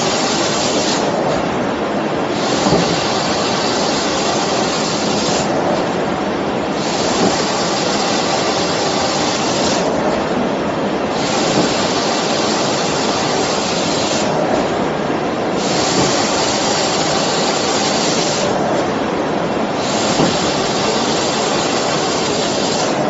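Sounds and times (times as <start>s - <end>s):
printer machine rushing noise: 0.0s - 23.0s.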